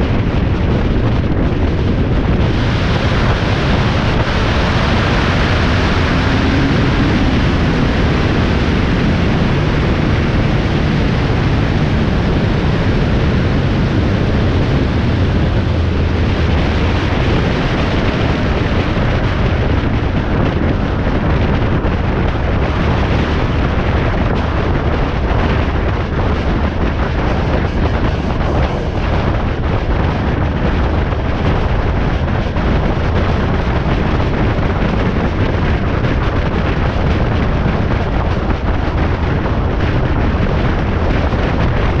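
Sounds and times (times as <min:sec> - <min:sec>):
road noise at highway speed: 0:00.0 - 0:42.0
wind buffeting microphone: 0:00.0 - 0:42.0.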